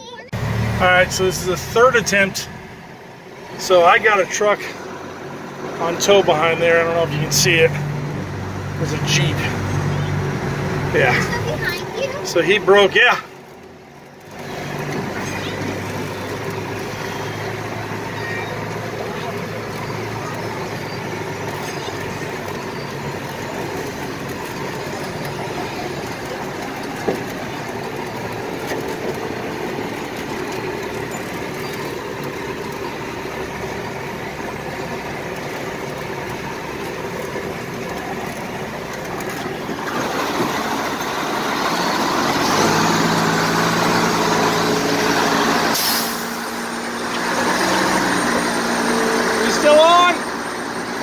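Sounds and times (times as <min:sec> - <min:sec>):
truck diesel engine under load: 0:00.0 - 0:51.0
tyres rumbling on gravel: 0:00.0 - 0:51.0.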